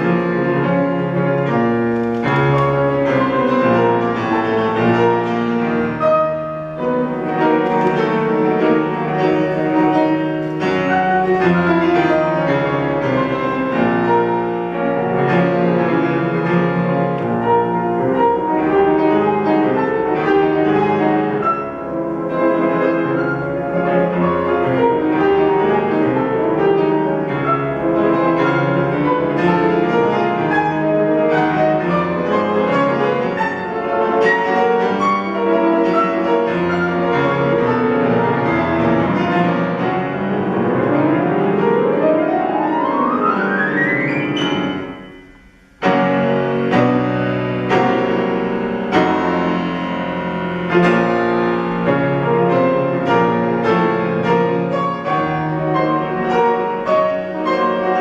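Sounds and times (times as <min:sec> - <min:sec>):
solo piano playing fast: 0:00.0 - 0:58.0.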